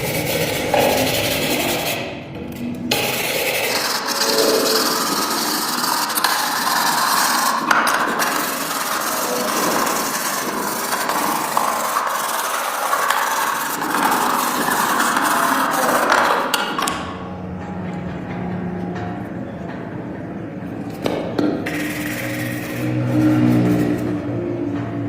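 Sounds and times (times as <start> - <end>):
abrasive rubbing on hard surface: 0.0 - 17.2, 20.8 - 24.7.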